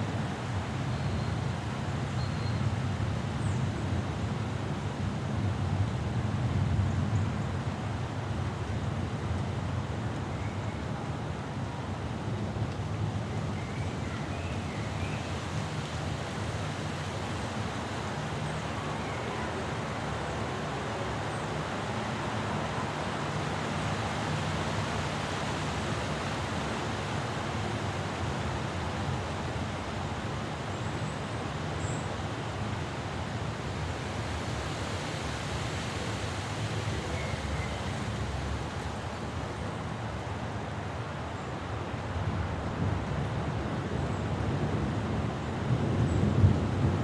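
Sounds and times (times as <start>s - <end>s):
wind and rain: 0.0s - 47.0s.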